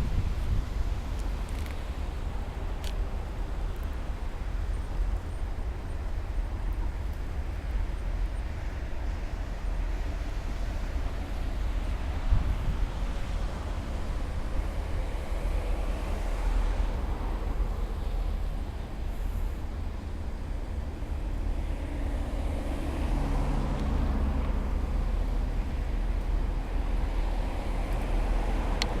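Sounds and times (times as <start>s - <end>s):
engine hum: 0.0s - 29.0s
train low rumble: 0.0s - 29.0s.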